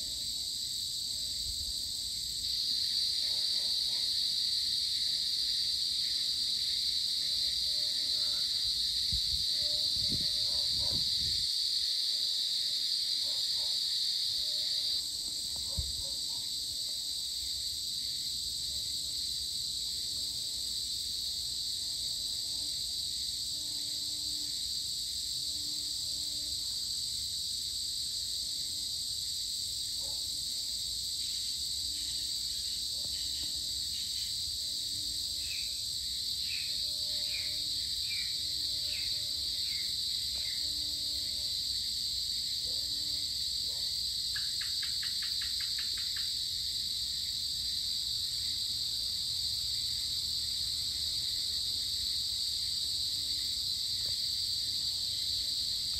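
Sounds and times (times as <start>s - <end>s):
crickets shrilling: 0.0s - 55.9s.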